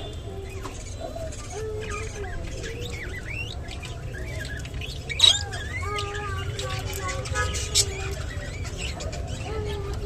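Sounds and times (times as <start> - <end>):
budgerigar chirping and warbling: 0.4 - 9.8.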